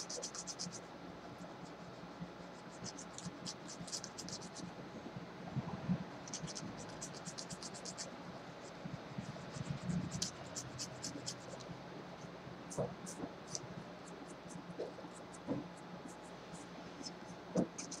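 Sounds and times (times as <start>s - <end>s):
nail file scraping fingernail: 0.0s - 0.8s, 1.6s - 4.6s, 6.3s - 11.7s, 12.7s - 18.0s.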